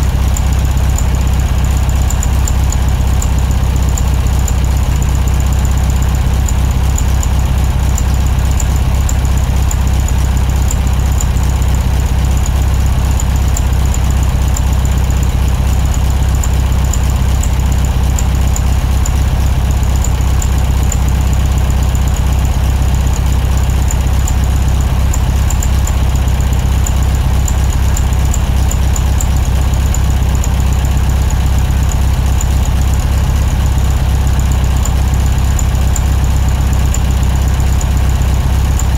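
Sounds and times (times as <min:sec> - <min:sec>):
car engine droning: 0:00.0 - 0:38.9.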